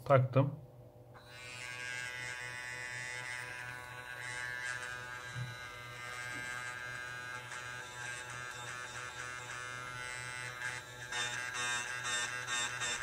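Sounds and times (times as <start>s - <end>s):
small electric motor whining: 1.2s - 13.0s.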